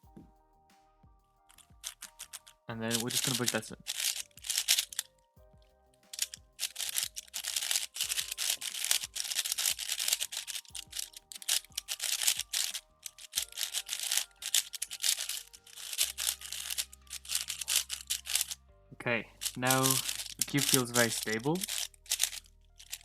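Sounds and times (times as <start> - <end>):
background music: 0.0 - 23.0
plastic speed cube clicking: 1.8 - 5.1, 6.1 - 18.6, 19.4 - 23.0.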